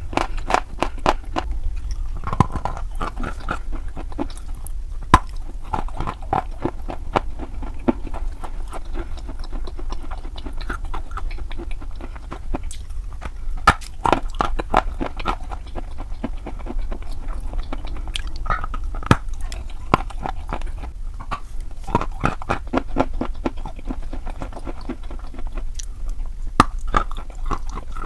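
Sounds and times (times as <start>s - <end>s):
chalk crunching while chewed: 0.0s - 28.0s
steady low hum: 0.0s - 28.0s.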